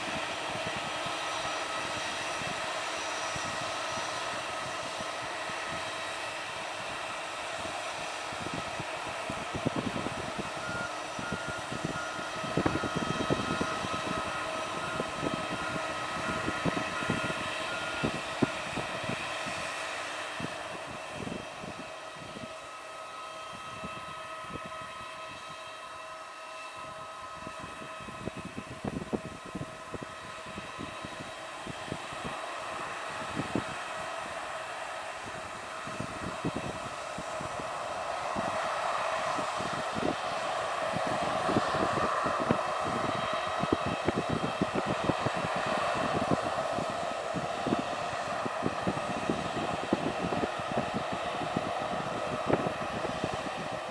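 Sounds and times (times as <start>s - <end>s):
aircraft engines whining: 0.0s - 53.9s
wind buffeting microphone: 0.0s - 53.9s.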